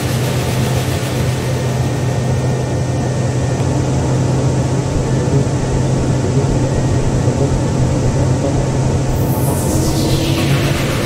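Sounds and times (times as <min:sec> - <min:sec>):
jet engines droning in cabin: 0:00.0 - 0:11.0.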